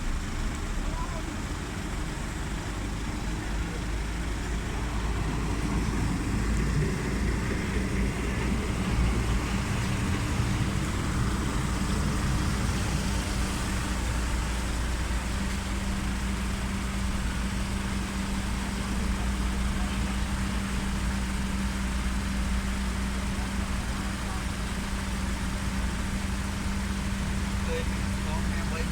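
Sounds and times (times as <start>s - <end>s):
ship engine low rumble: 0.0s - 28.9s
steady low hum: 0.0s - 28.9s
vehicle noise: 0.0s - 28.9s.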